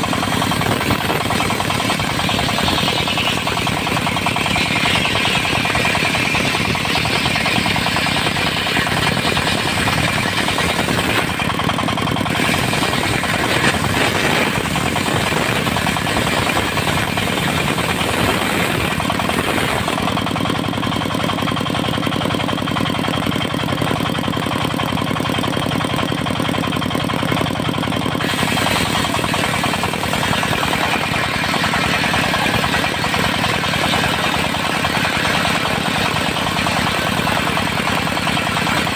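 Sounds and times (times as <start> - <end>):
circular sawmill running: 0.0 - 38.9
fast knocking engine beat: 0.0 - 38.9.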